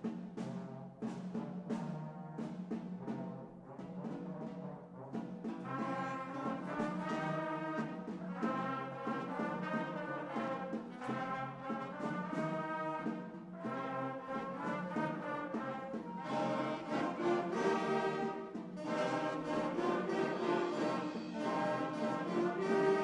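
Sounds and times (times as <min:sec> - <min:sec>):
concert band playing slow piece: 0:00.0 - 0:23.0
drum strokes: 0:00.0 - 0:23.0.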